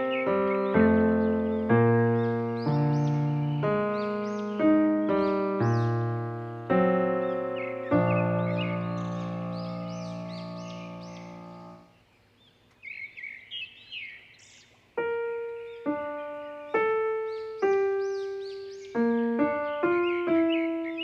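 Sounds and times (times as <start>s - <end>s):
slow single piano notes: 0.0s - 11.9s, 15.0s - 21.0s
bird chirping: 0.0s - 21.0s.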